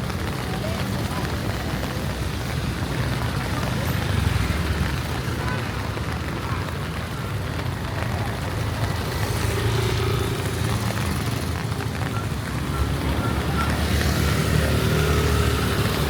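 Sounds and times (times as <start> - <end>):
heavy rain hissing: 0.0 - 16.0
traffic engines rumbling: 0.0 - 16.0.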